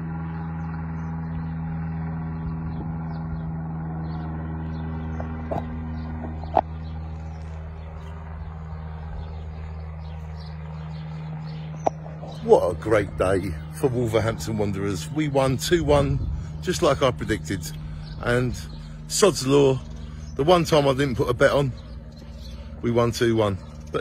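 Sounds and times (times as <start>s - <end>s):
propeller plane droning overhead: 0.0s - 24.0s.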